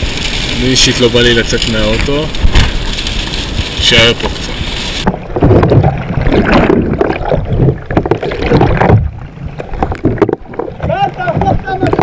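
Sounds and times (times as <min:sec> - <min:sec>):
water splashing over kayak deck: 0:00.0 - 0:12.0.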